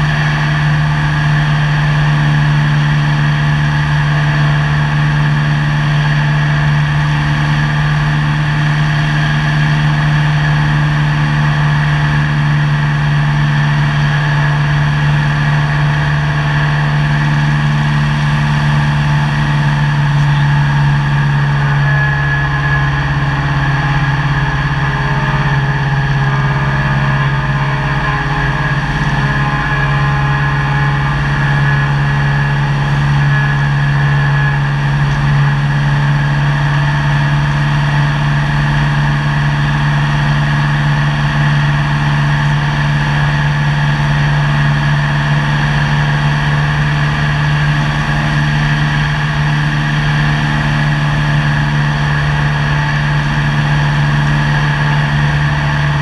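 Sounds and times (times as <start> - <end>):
airplane engine drone in cockpit: 0.0 - 56.0.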